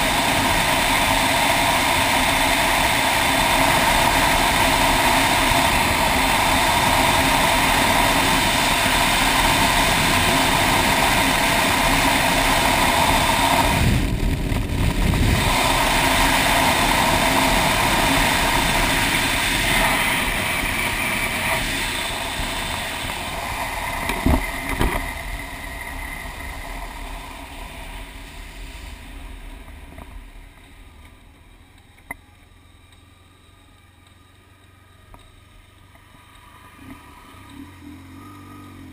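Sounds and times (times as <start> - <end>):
wind rush: 0.0 - 31.6
motorcycle engine: 0.0 - 38.9.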